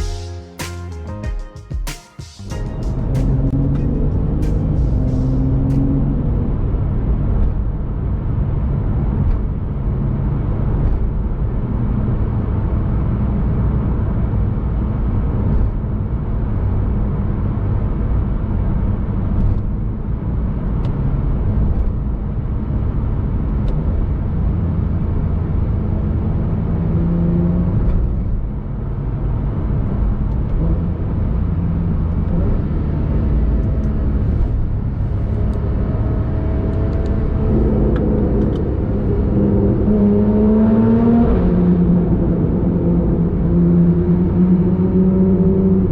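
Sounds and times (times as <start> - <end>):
road noise: 2.4 - 45.9
car engine droning: 2.9 - 45.9.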